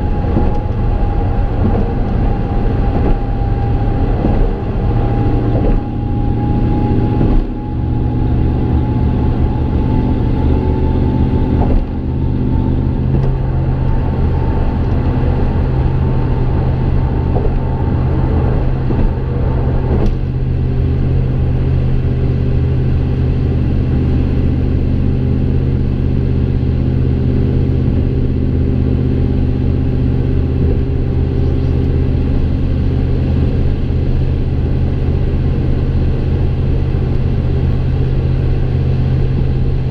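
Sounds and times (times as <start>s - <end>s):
truck exhaust low drone: 0.0s - 39.9s.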